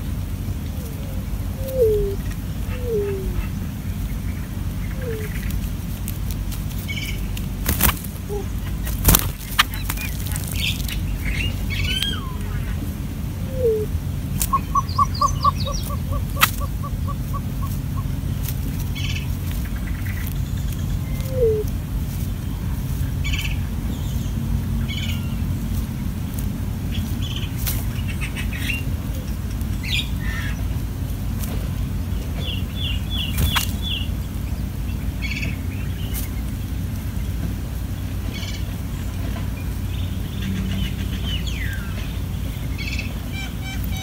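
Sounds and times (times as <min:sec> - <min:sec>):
birds chirping: 0:00.0 - 0:44.0
steady low rumble: 0:00.0 - 0:44.0.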